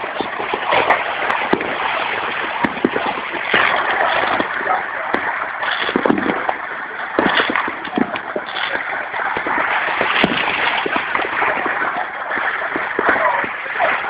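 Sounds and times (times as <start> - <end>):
firecrackers crackling: 2.6 - 14.0.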